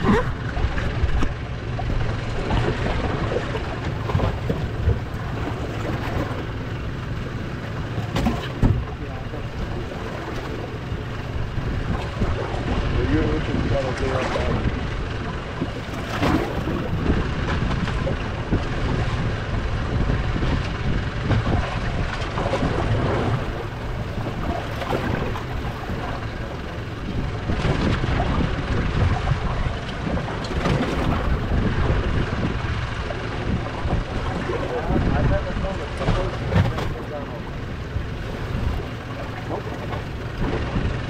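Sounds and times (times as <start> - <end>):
wind noise on microphone: 0.0 - 6.7, 7.7 - 41.0
boat engines running: 0.0 - 41.0.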